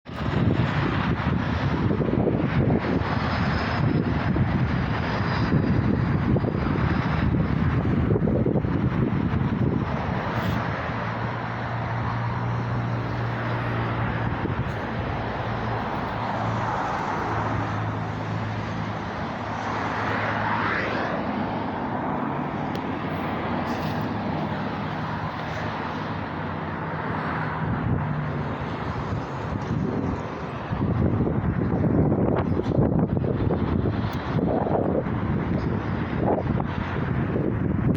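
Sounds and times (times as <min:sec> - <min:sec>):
rising whine: 0:00.1 - 0:37.9
vehicle running: 0:00.1 - 0:37.9.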